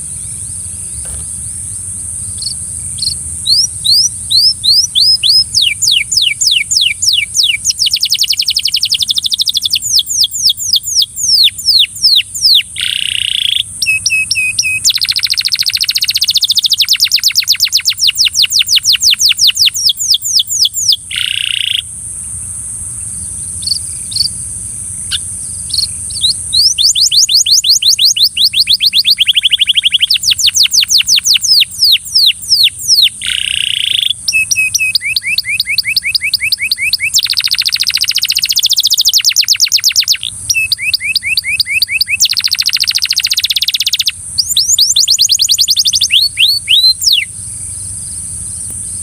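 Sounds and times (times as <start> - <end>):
canary singing trills: 0.0 - 49.0
steady high hiss: 0.0 - 49.0.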